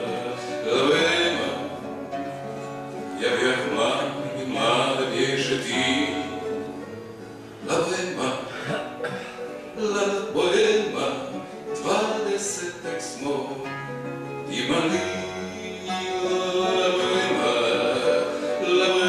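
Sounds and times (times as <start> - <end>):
man singing: 0.0 - 6.9, 7.6 - 19.0
strummed acoustic guitar: 0.0 - 19.0.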